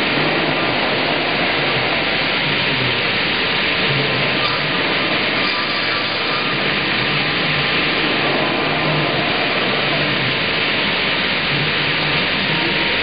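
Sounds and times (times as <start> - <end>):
circular saw cutting log: 1.4 - 13.0.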